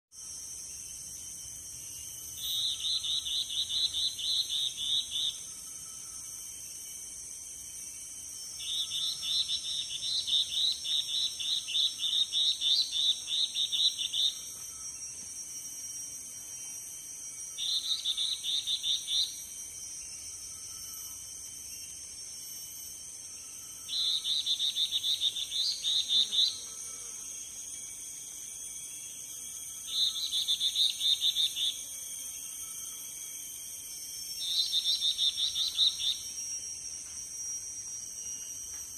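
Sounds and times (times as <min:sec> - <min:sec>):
steady high-pitched hiss: 0:00.2 - 0:38.9.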